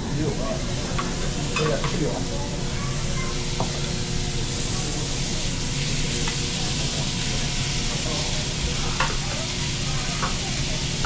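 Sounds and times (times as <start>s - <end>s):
beef sizzling on a griddle: 0.1s - 11.0s.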